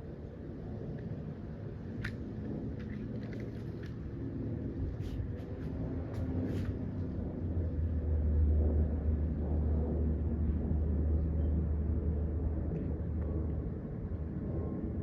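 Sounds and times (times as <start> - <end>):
jet engines deep rumble: 0.0 - 15.0.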